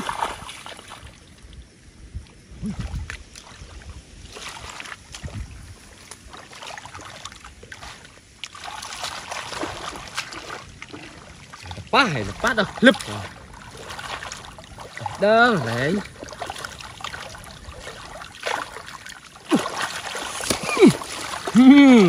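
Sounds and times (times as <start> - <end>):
small splashes: 0.0 - 1.6, 2.2 - 22.0
shallow water sloshing: 0.0 - 22.0.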